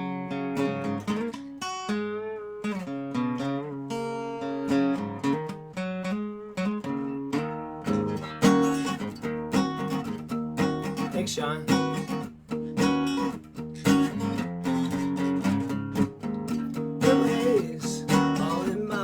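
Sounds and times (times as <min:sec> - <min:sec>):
resonator guitar playing: 0:00.0 - 0:19.0.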